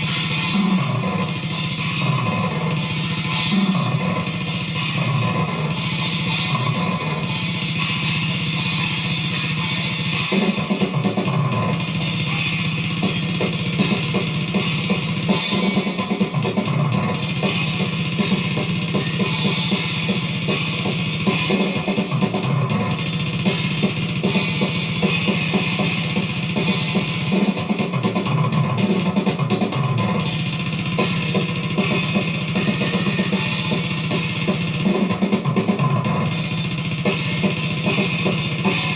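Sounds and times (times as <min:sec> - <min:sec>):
death metal music: 0:00.0 - 0:38.9
distorted electric guitar: 0:00.0 - 0:38.9
drum kit with bass drum and cymbals: 0:00.0 - 0:38.9.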